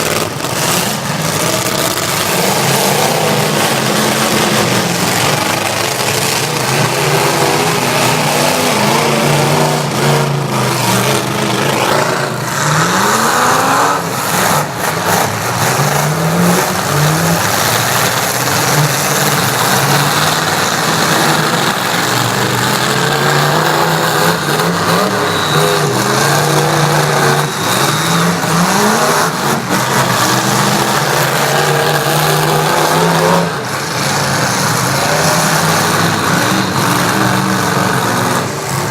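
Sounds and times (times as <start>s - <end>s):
truck engines revving hard: 0.0s - 38.9s.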